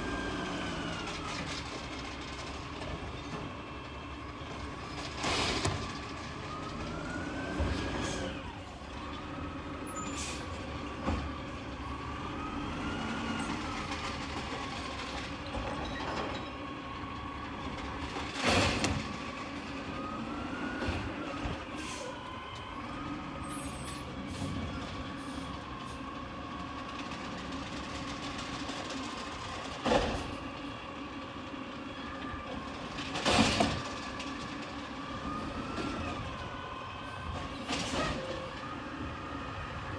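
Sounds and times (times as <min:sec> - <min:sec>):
garbage truck packer whine: 0:00.0 - 0:39.9
truck running noise: 0:00.0 - 0:39.9.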